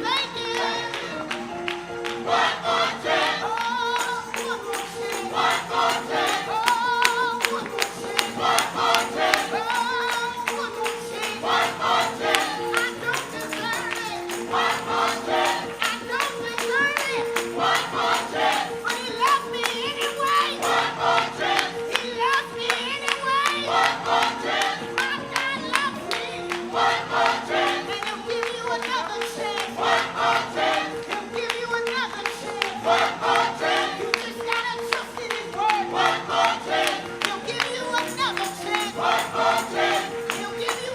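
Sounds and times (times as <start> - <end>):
gospel choir singing: 0.0 - 40.9.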